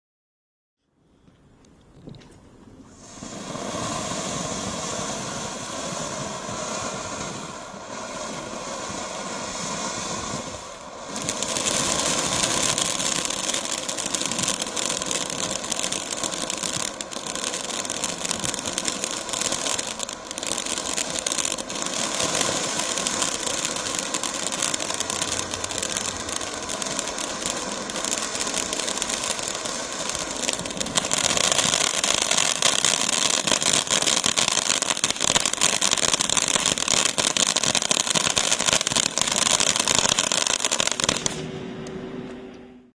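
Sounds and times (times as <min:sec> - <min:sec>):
firework fountain hissing and crackling: 0:02.7 - 0:41.6.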